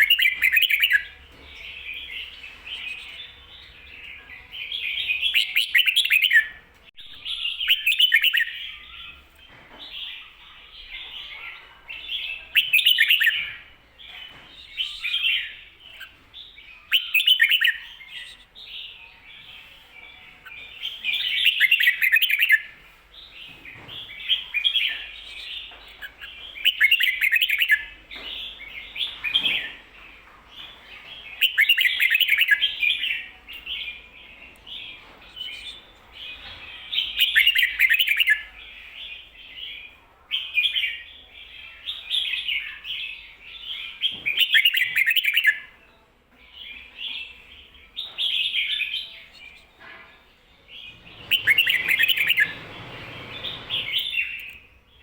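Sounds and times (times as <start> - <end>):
bird song phrases: 0.0 - 55.0.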